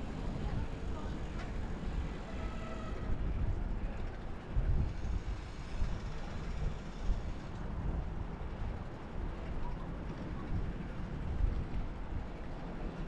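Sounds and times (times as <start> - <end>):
bicycle tyres rolling on asphalt: 0.0 - 13.0
wind buffeting microphone: 0.0 - 13.0.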